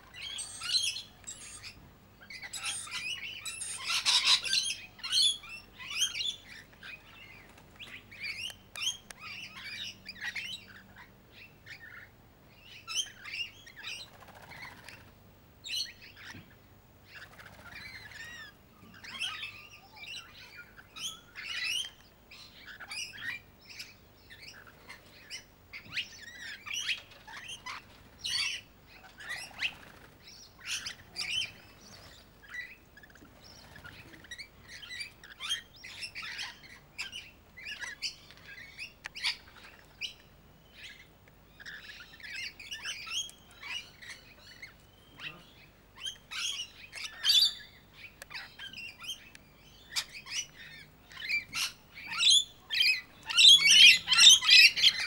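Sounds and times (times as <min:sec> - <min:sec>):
lorikeets chattering: 0:00.1 - 0:15.0, 0:17.1 - 0:55.0.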